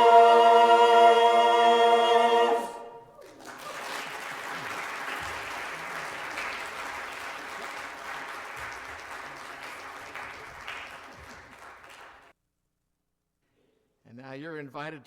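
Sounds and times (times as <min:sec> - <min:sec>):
congregation applauding: 0:00.0 - 0:12.3.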